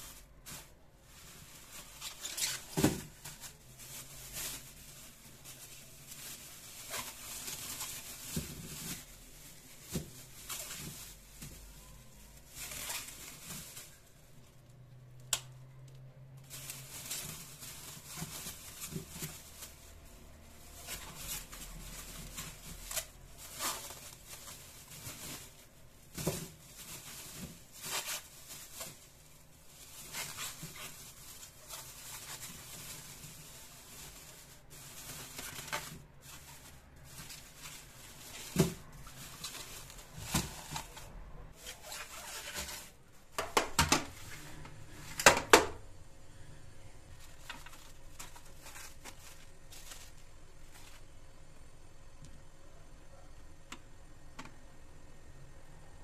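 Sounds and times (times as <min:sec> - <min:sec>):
plastic bag rustling: 0:00.0 - 0:45.9, 0:47.1 - 0:51.4.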